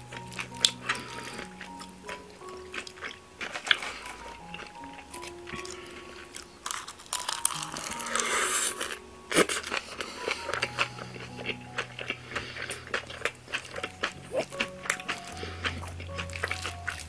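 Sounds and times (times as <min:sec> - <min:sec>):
crisp crunching while eating: 0:00.0 - 0:17.0
wet chewing: 0:00.0 - 0:17.0.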